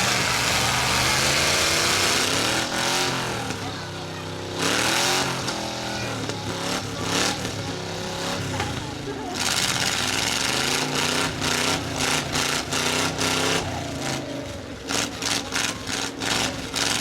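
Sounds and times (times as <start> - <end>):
loud noisy din: 0.0 - 16.7
car engines revving: 0.0 - 17.0.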